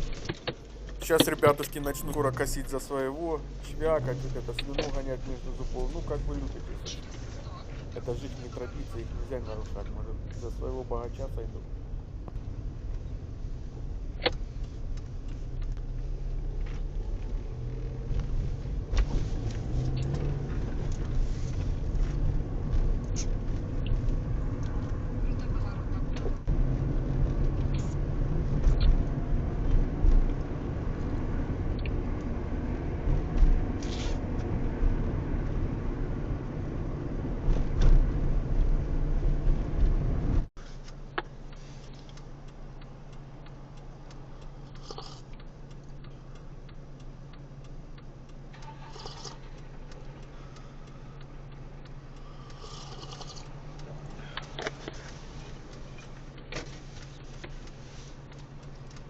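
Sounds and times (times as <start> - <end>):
car engine and road noise: 0.0 - 59.0
steady engine hum: 0.0 - 59.0.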